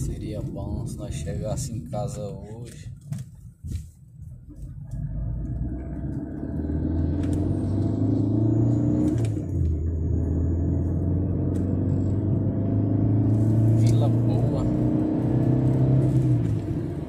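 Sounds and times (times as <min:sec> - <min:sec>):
car interior engine and tyre hum: 0:00.0 - 0:17.0.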